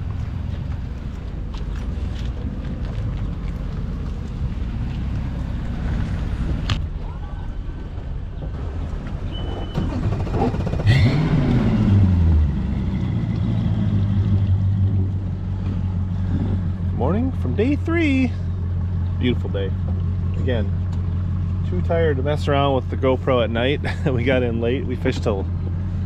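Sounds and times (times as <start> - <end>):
engine humming and revving: 0.0 - 26.0.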